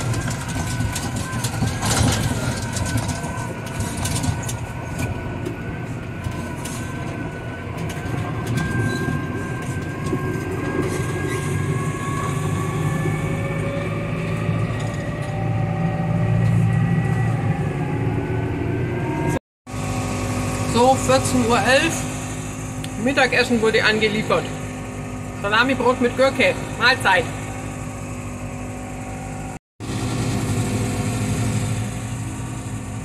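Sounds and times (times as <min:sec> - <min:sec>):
tractor engine drone: 0:00.0 - 0:33.0.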